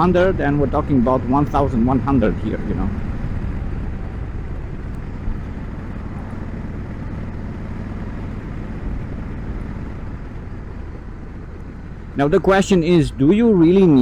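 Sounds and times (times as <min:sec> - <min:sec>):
motorcycle engine cruising: 0:00.0 - 0:14.0
wind and road rush: 0:00.0 - 0:14.0.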